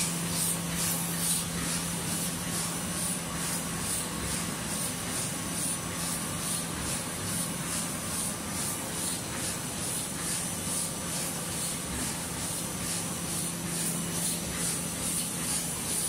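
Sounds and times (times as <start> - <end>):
napkin machine hum and hiss: 0.0 - 16.0.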